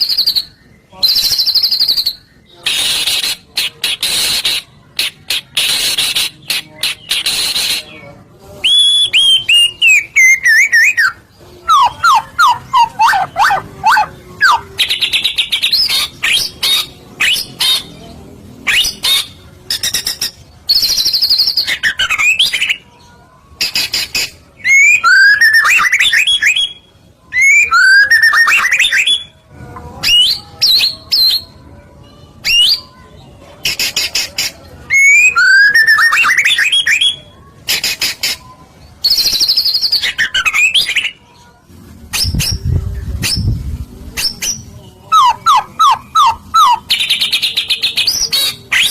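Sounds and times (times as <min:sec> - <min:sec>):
recorded songbird song: 0:00.0 - 0:48.9.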